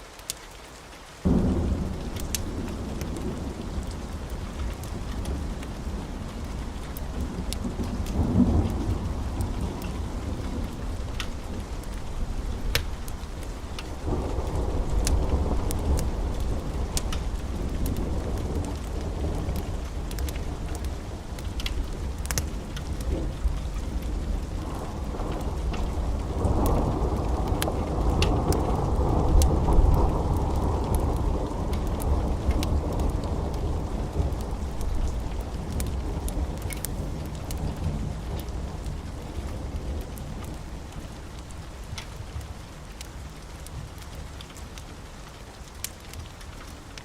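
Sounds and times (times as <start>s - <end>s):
steady rain: 0.0s - 47.0s
low rolling thunder: 1.2s - 42.9s
wood fire crackling and popping: 1.7s - 47.0s.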